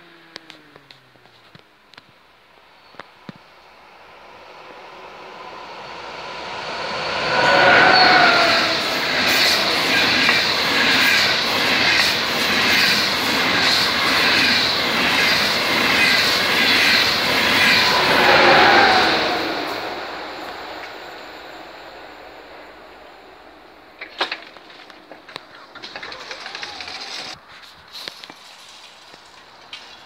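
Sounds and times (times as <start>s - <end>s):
high-speed train passing: 2.5s - 27.4s.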